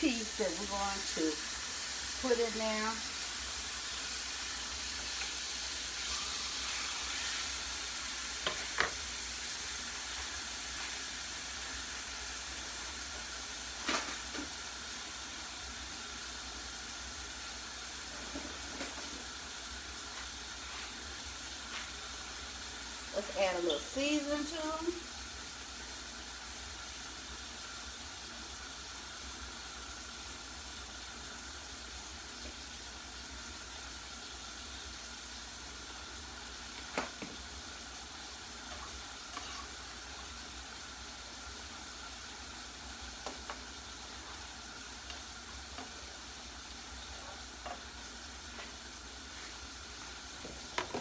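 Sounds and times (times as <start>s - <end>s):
meat sizzling in a frying pan: 0.0s - 51.0s.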